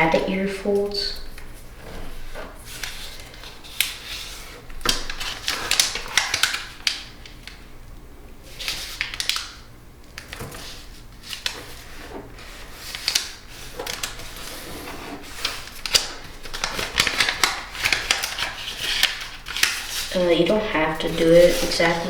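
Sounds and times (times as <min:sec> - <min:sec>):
paper crinkling and crackling: 0:00.0 - 0:07.6, 0:08.5 - 0:22.0.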